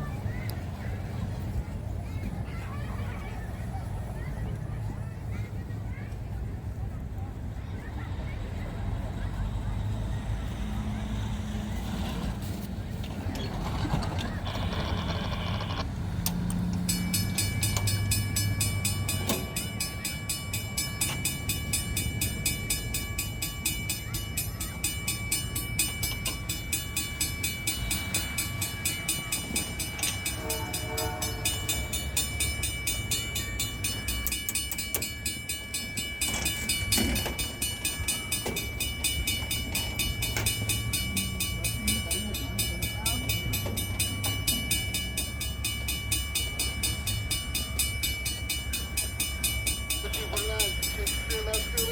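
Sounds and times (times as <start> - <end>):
train wheels clicking: 8.9 - 51.9.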